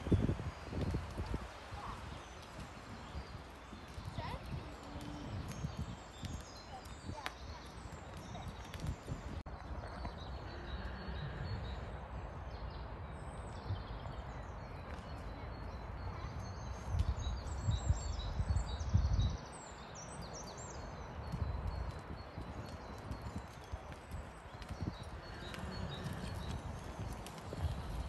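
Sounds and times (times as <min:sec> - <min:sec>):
small birds chirping: 0:00.0 - 0:28.0
wind buffeting microphone: 0:00.0 - 0:28.0.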